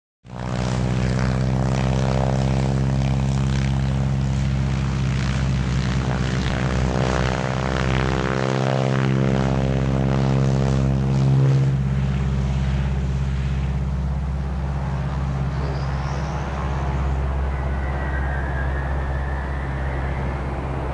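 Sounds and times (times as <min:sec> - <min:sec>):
propeller aircraft engine drone: 0:00.2 - 0:20.9.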